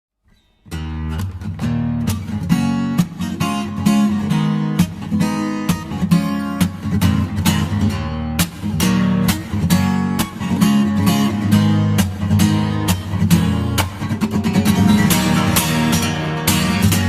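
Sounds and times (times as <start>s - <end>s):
acoustic guitar strumming: 0.3s - 17.0s.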